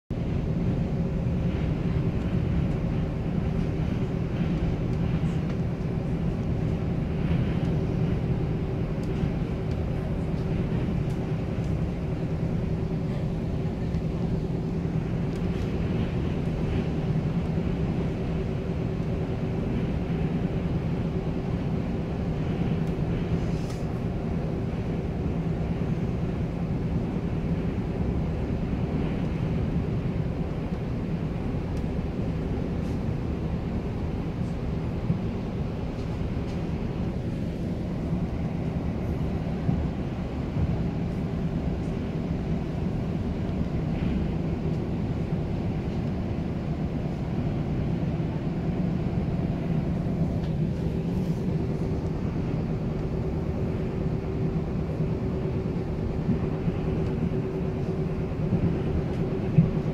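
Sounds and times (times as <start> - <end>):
train rumble inside carriage: 0.0 - 59.9.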